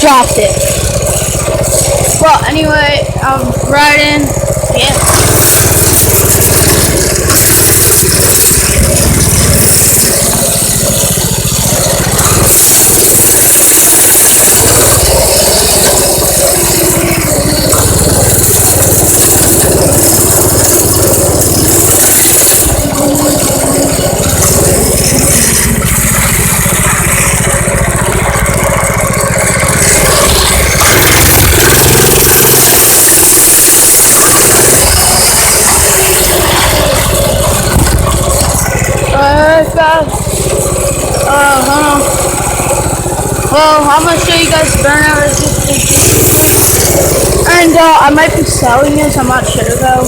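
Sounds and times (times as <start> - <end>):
minibike engine running: 0.0 - 50.0
rattling: 0.0 - 50.0
heavy rushing noise: 4.3 - 50.0.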